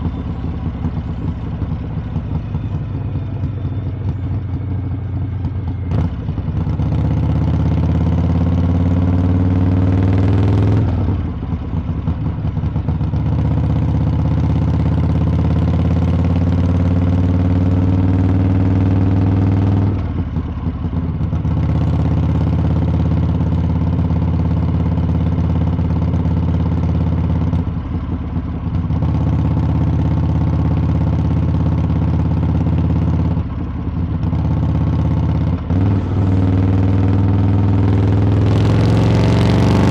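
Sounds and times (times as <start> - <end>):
motorcycle exhaust: 0.0 - 39.9.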